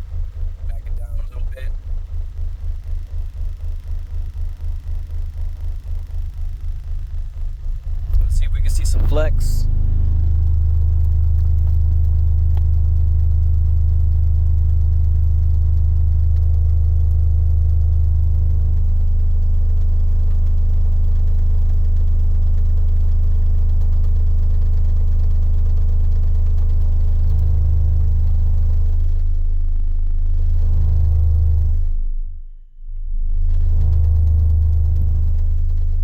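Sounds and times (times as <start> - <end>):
subwoofer bass test tone: 0.0 - 36.0.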